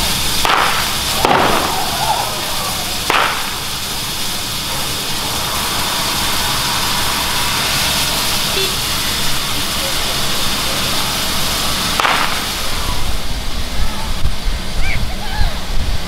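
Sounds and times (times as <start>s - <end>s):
sharp cracks: 0.0s - 13.0s
steam locomotive hissing steam: 0.0s - 16.0s.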